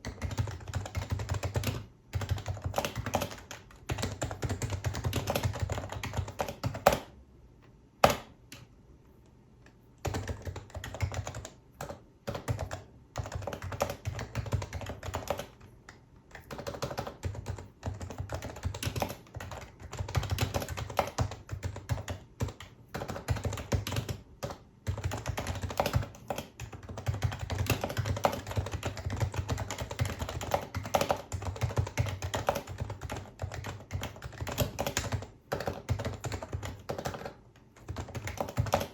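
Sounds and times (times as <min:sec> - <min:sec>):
fast keyboard typing: 0:00.0 - 0:07.2, 0:10.0 - 0:38.9.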